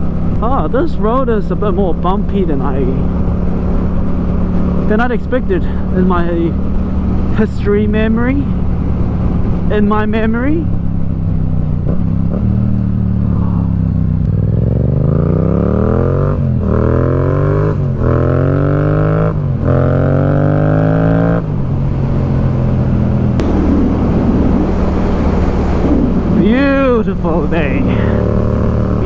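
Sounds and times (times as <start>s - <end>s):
motorcycle engine accelerating: 0.0s - 29.0s
wind noise: 0.0s - 29.0s.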